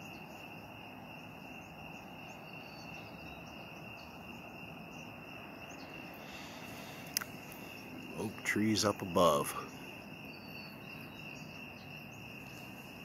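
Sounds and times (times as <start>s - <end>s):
crickets chirping: 0.0s - 13.0s
low background noise: 0.0s - 13.0s.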